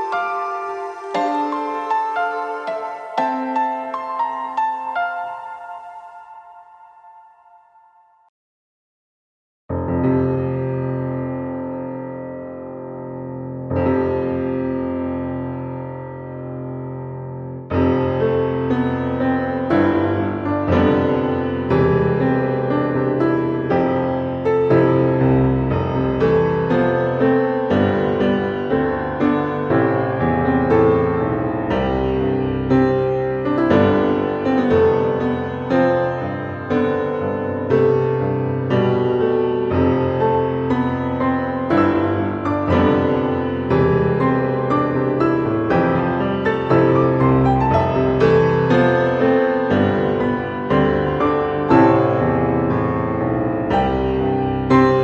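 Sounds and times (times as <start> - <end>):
calm piano music: 0.0 - 8.3, 9.7 - 55.0.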